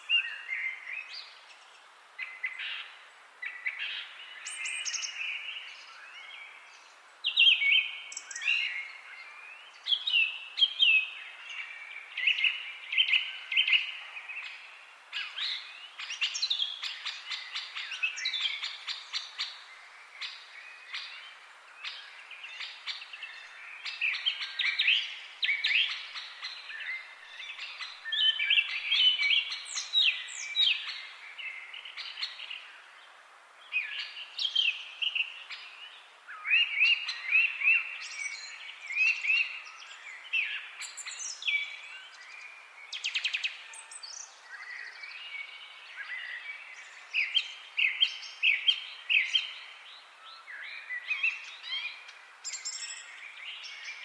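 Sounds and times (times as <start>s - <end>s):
faint background hiss: 0.0s - 54.0s
songbirds chirping and singing: 0.0s - 54.0s.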